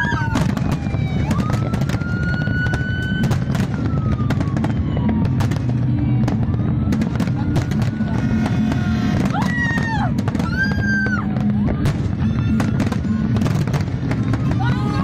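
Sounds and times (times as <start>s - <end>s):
dense low rumble: 0.0s - 15.0s
fireworks bangs and crackles: 0.0s - 15.0s
fireworks whistling: 0.0s - 15.0s.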